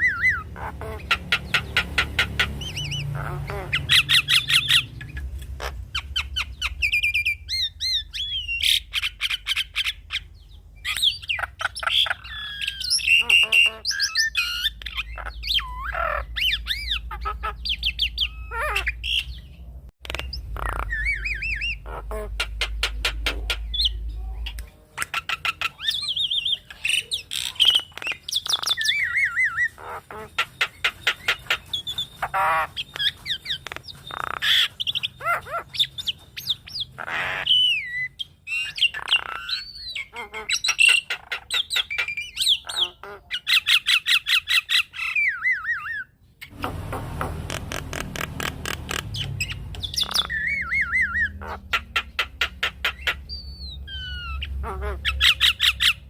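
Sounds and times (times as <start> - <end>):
myna bird calling: 0.0 - 56.0.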